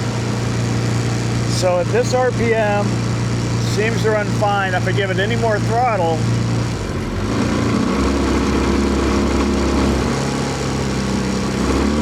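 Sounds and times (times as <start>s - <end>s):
outboard motor misfiring at high revs: 0.0s - 12.0s.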